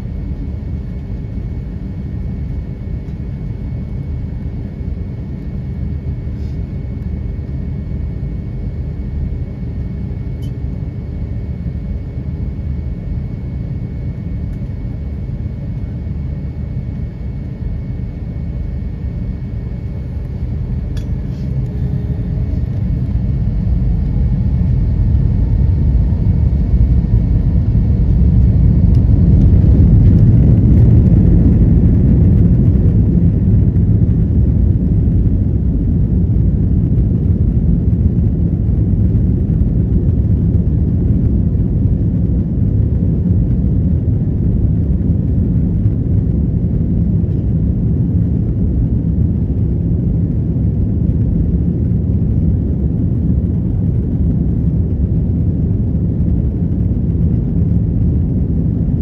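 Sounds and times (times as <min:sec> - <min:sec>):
high whine: 0:00.0 - 0:48.7
aircraft cabin low rumble: 0:00.0 - 0:59.0.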